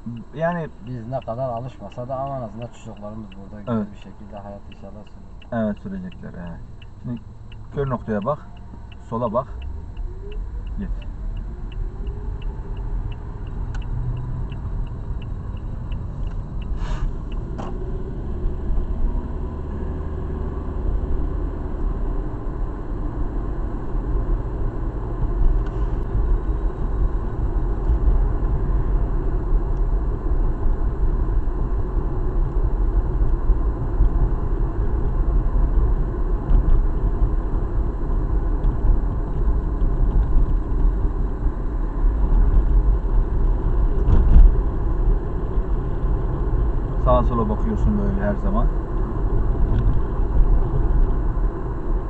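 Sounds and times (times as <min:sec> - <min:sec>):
car engine and road noise: 0:00.0 - 0:52.0
turn signal ticking: 0:00.0 - 0:52.0.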